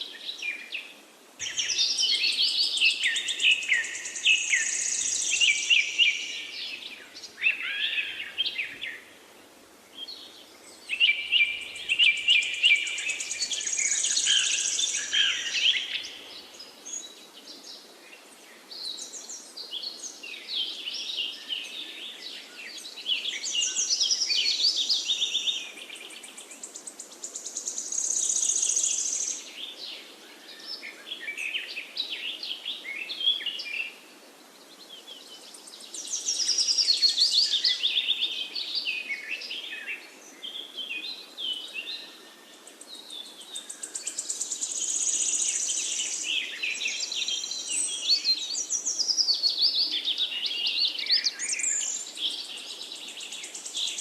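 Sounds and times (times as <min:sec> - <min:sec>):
faint background hiss: 0:00.0 - 0:54.0
songbird warbles and trills: 0:00.0 - 0:54.0.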